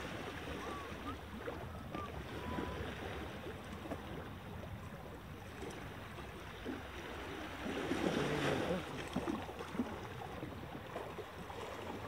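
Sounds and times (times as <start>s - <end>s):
waves lapping on rocks: 0.0s - 12.0s.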